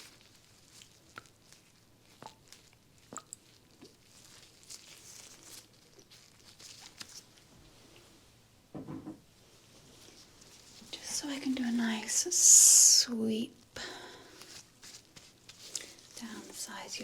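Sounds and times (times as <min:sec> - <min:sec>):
gloved hands rustling and crinkling: 0:00.0 - 0:08.2, 0:09.4 - 0:12.4, 0:13.6 - 0:17.0.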